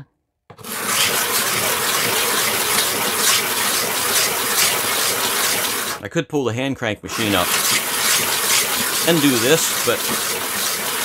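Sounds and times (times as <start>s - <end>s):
stone scraping on abrasive disc: 0.5s - 6.0s, 7.1s - 11.0s.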